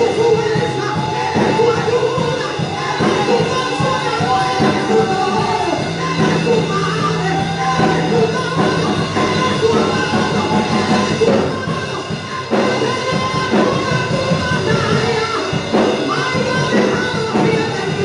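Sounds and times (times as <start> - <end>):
band with drum kit playing: 0.0 - 18.0
person singing: 0.0 - 18.0.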